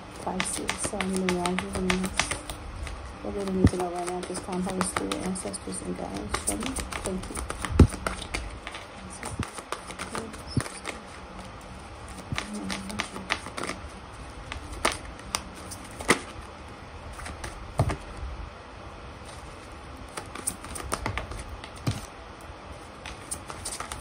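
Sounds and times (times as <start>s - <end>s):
cards being shuffled: 0.0s - 18.2s, 19.2s - 22.1s, 22.8s - 24.0s.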